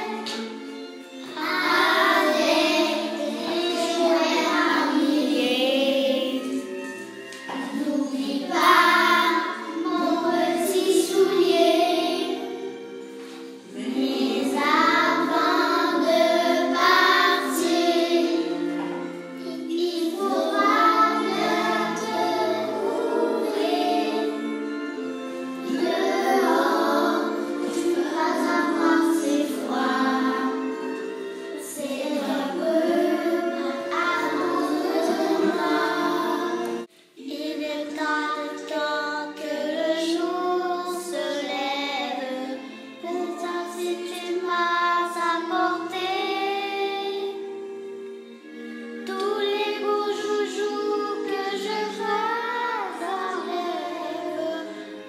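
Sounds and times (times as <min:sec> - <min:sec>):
children singing: 0:00.0 - 0:55.0
musical accompaniment: 0:00.0 - 0:55.0.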